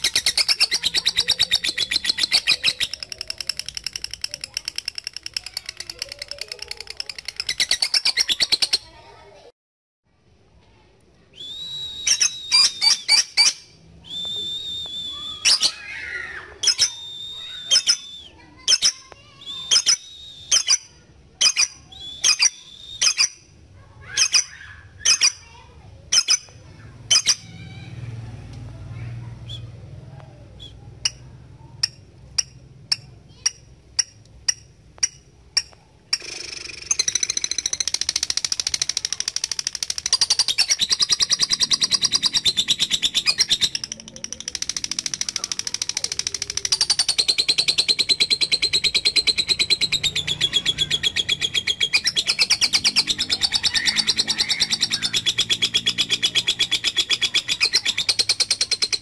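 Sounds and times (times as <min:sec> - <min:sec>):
bird chirping and trilling: 0:00.0 - 0:09.0, 0:11.4 - 0:28.0, 0:29.4 - 0:59.0.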